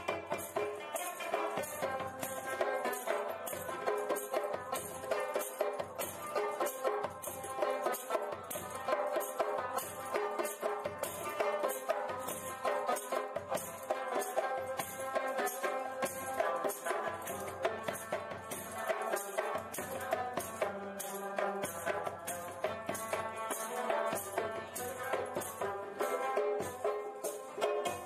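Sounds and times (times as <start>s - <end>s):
music with percussion beat: 0.0s - 28.0s
rattle or tambourine percussion: 0.0s - 28.0s.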